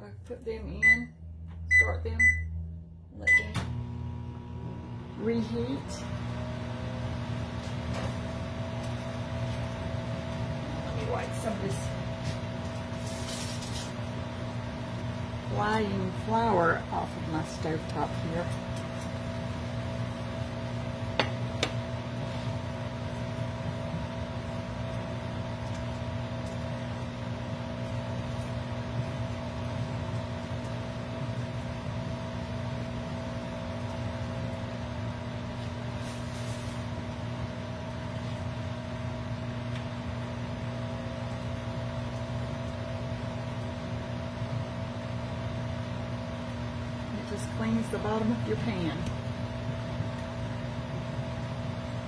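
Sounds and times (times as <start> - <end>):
microwave oven humming: 0.0 - 52.0.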